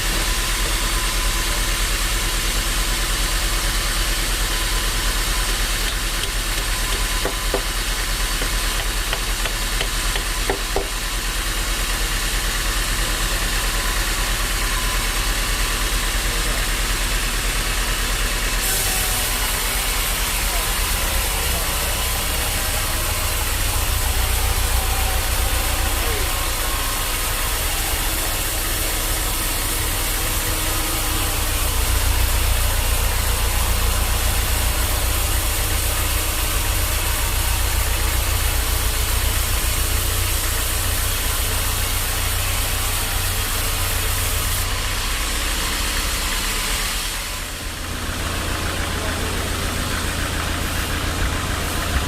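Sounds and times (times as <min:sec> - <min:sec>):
broad hiss of sawmill machinery: 0:00.0 - 0:52.0
deep engine drone: 0:00.0 - 0:52.0.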